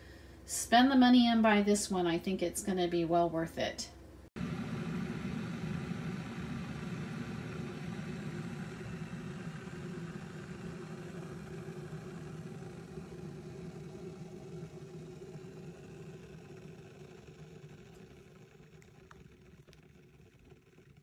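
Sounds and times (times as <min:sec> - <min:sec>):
electric kettle heating water: 0:00.0 - 0:21.0.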